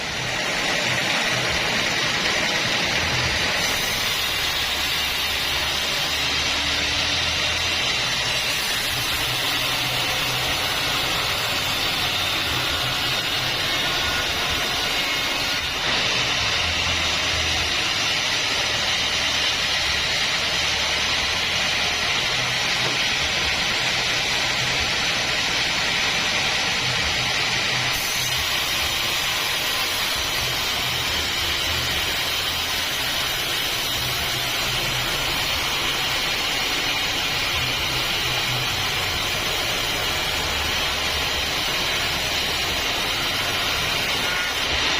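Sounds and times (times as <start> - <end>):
saw blade hissing through timber: 0.0 - 44.9.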